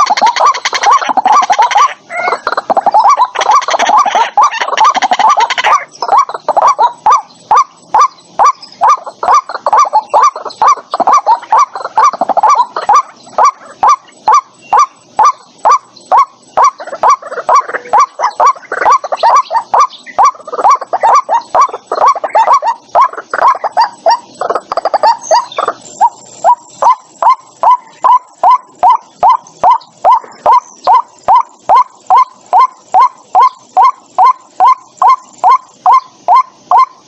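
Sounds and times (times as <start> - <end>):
waterhen calling harsh notes: 0.0 - 37.0.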